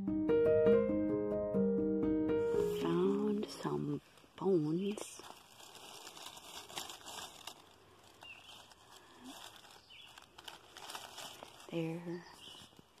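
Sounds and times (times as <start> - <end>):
dry leaves rustling: 2.6 - 13.0.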